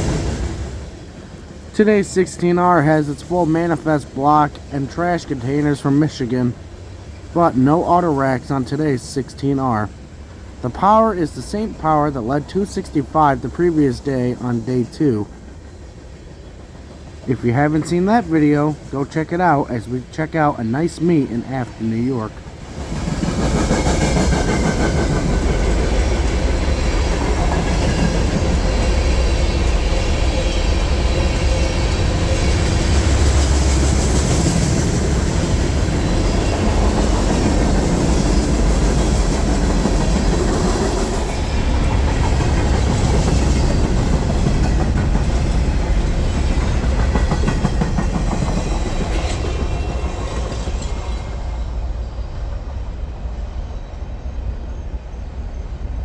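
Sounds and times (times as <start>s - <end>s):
train cars clattering: 0.0s - 53.5s
freight train wheel rumble: 0.0s - 56.0s.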